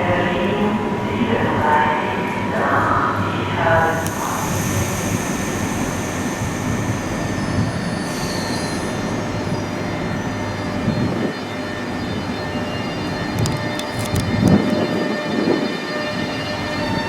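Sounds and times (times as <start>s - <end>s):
faint high whines: 0.0s - 17.0s
train rumbling: 0.0s - 17.0s.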